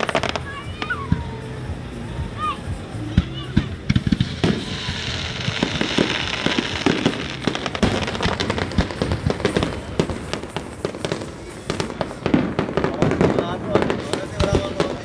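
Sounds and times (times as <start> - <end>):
fireworks bangs and crackles: 0.0 - 15.0
hissing crackle: 0.0 - 15.0.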